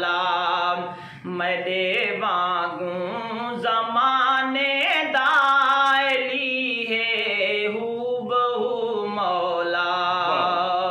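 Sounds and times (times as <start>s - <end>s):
two men singing unaccompanied: 0.0s - 10.9s.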